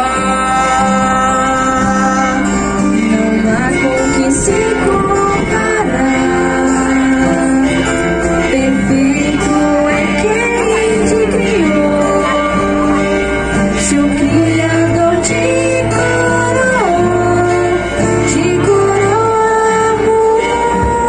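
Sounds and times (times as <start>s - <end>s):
instrumental accompaniment: 0.0s - 21.0s
voices singing a hymn: 0.0s - 21.0s.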